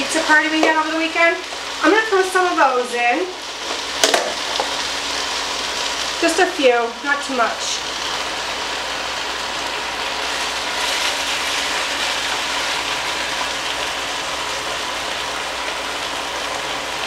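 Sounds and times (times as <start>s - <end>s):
beef sizzling in a pot: 0.0s - 17.0s.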